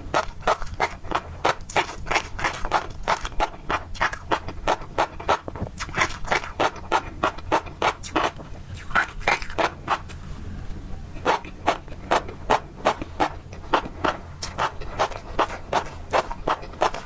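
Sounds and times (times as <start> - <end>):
chewing crunchy fish roe: 0.0 - 17.0.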